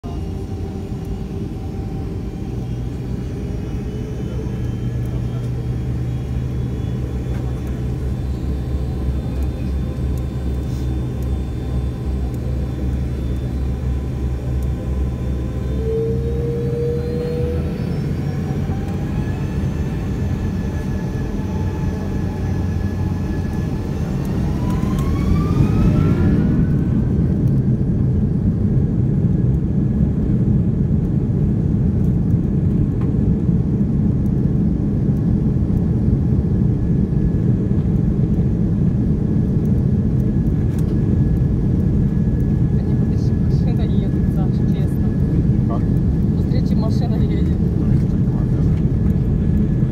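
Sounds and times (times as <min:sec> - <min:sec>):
jet engines rumbling: 0:00.0 - 0:49.9
jet engines whining: 0:00.0 - 0:49.9.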